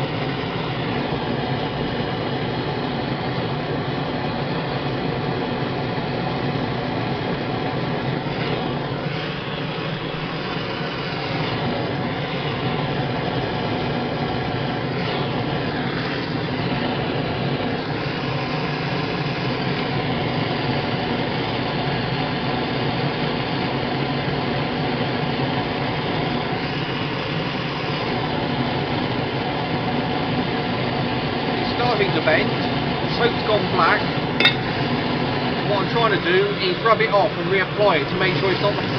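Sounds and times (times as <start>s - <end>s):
propane torch flame rushing: 0.0s - 38.9s.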